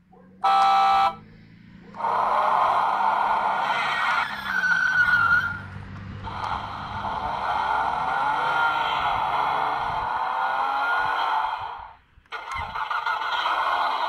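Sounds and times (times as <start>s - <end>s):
tinny toy racing car effects: 0.4s - 14.0s.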